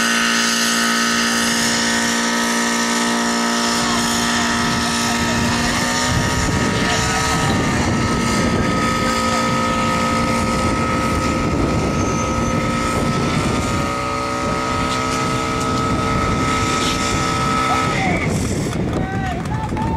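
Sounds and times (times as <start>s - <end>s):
hose spraying water: 0.0s - 18.6s
pump engine running: 0.0s - 19.9s.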